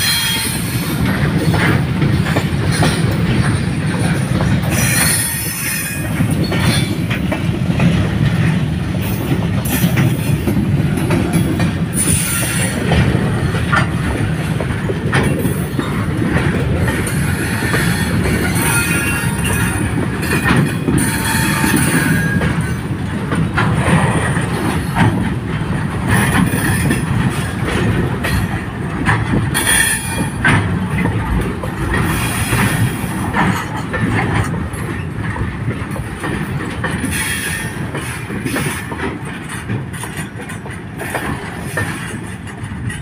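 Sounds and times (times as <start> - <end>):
train wheels clattering over rail joints: 0.0 - 43.0.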